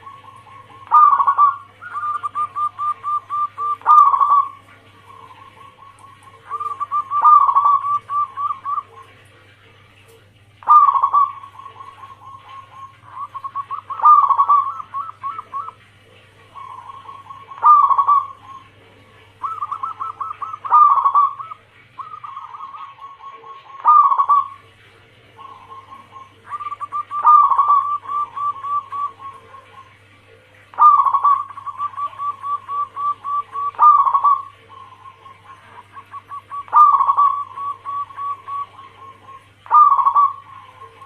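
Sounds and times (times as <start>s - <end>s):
doves cooing: 0.0s - 41.0s.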